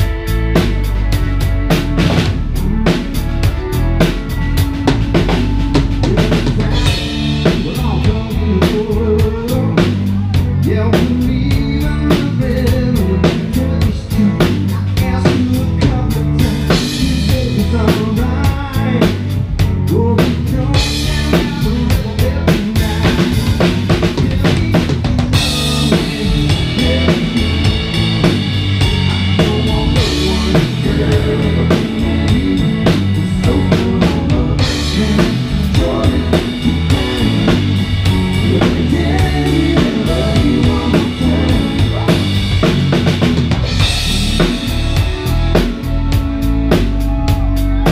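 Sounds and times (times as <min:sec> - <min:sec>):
bass drum and snare beat: 0:00.0 - 0:47.9
rock band playing: 0:00.0 - 0:47.9.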